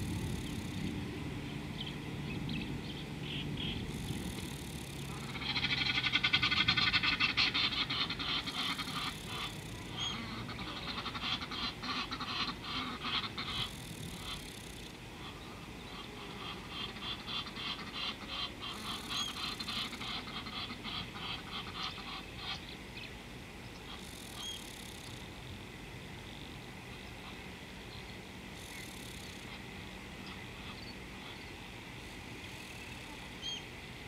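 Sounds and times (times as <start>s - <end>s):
stuttering chirring animal calls: 0.0s - 0.9s, 2.9s - 23.1s, 23.8s - 25.3s, 28.4s - 33.7s
faint high hiss: 0.0s - 34.0s.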